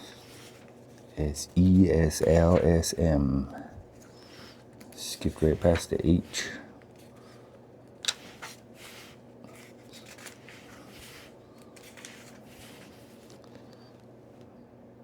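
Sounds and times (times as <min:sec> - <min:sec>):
book pages turning: 0:00.0 - 0:14.0
low steady hum: 0:00.0 - 0:15.0.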